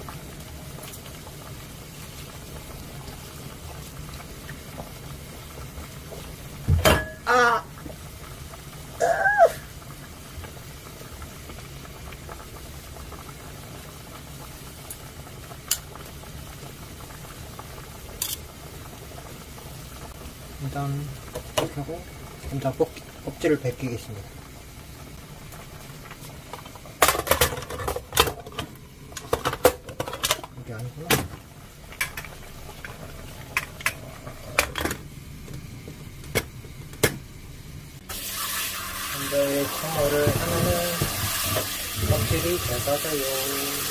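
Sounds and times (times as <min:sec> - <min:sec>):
pot bubbling at a boil: 0:00.0 - 0:43.9.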